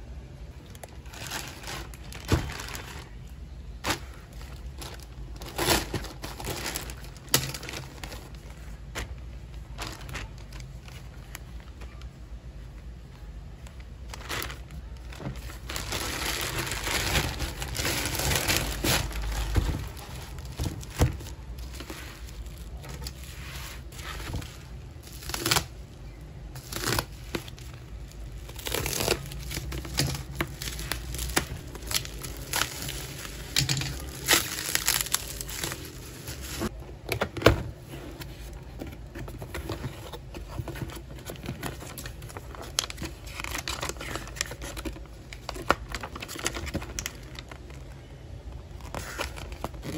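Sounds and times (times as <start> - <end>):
plastic packaging crinkling: 0.5 - 36.8, 38.4 - 49.9.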